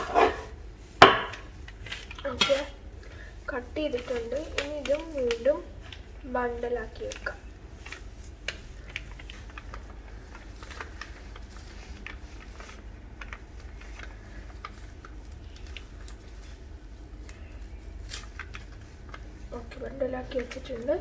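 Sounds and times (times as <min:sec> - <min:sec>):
herb stalks rustling: 0:00.0 - 0:21.0
steady low hum: 0:00.0 - 0:21.0.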